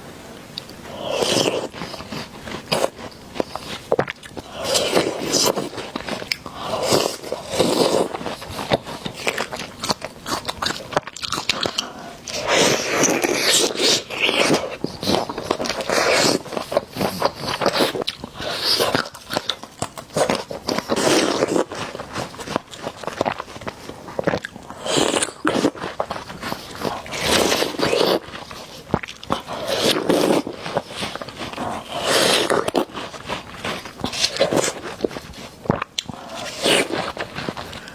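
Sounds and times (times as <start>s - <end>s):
crunchy chewing of sweets: 0.5s - 37.9s.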